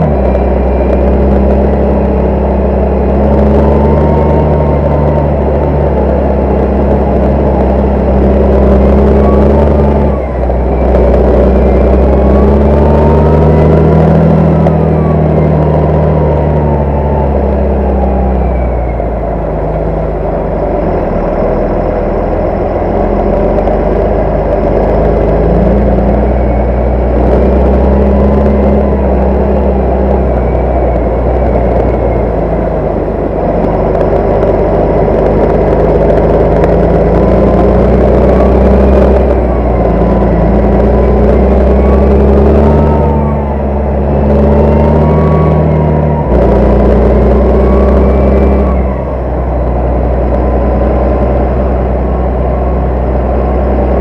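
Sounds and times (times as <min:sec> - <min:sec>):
faint whine: 0:00.0 - 0:54.0
tractor diesel engine running: 0:00.0 - 0:54.0.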